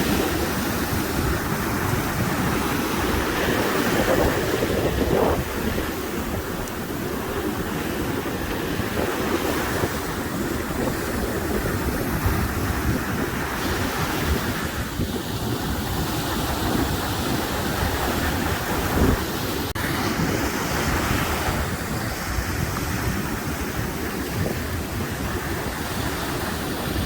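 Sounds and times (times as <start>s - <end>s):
ocean surf washing: 0.0s - 27.0s
wind buffeting microphone: 0.0s - 27.0s.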